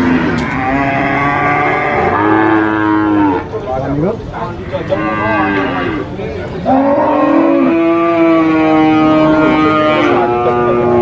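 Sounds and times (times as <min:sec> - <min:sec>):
cattle mooing: 0:00.0 - 0:03.6, 0:04.5 - 0:11.0.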